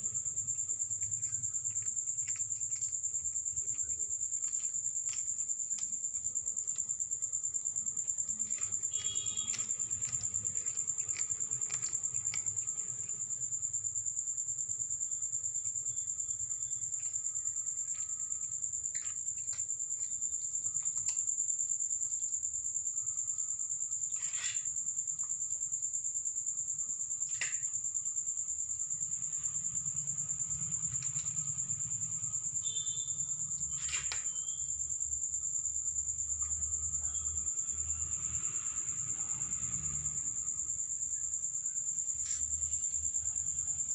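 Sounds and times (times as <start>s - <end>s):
insect chorus trilling: 0.0s - 43.9s.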